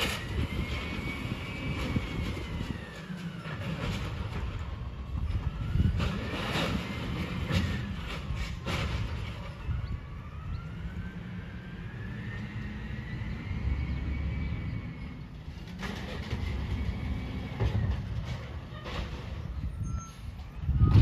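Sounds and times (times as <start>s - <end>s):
garbage truck engine rumbling: 0.0s - 21.0s.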